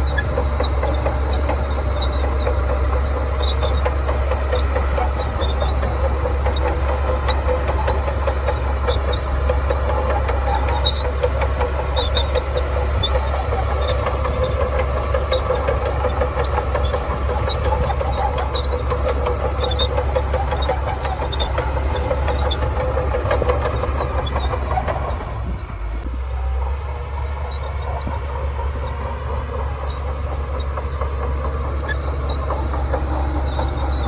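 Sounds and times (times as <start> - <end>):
rapid small clanks: 0.0 - 25.6, 27.3 - 34.0
bulldozer diesel engine under load: 0.0 - 34.0.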